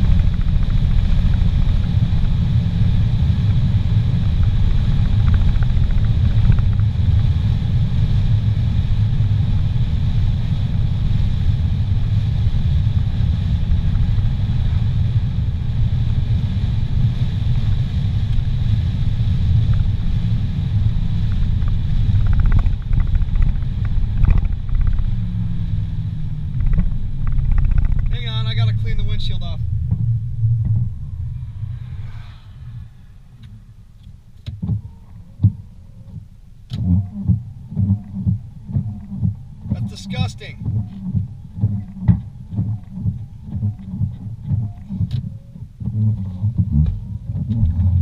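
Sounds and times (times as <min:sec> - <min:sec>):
car interior driving rumble: 0:00.0 - 0:48.0.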